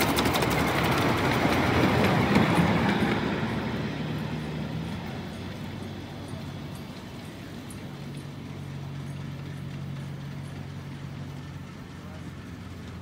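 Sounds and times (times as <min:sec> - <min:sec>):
miniature train wheels rumbling: 0:00.0 - 0:13.0.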